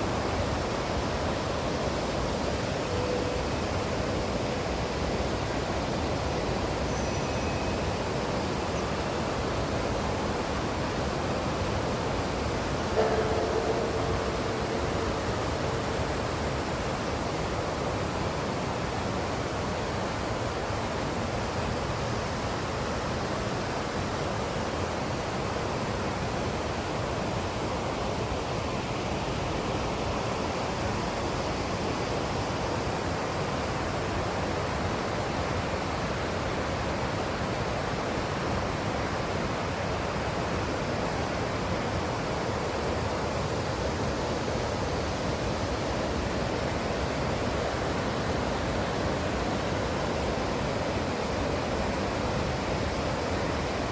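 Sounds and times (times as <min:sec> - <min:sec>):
stream rushing: 0:00.0 - 0:53.9.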